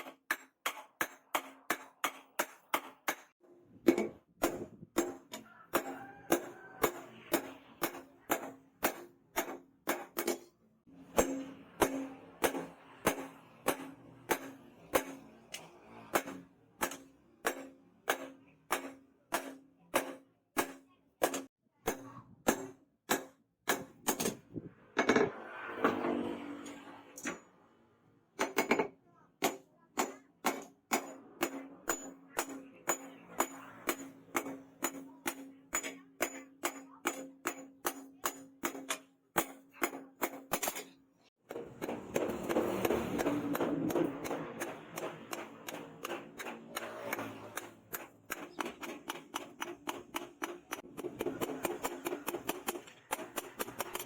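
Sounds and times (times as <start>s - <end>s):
hammer striking steel anvil: 0.0s - 24.4s, 28.4s - 54.0s.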